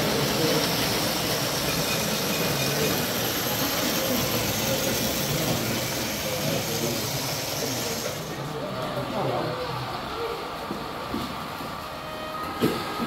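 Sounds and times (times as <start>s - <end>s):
model trains whirring: 0.0s - 13.0s.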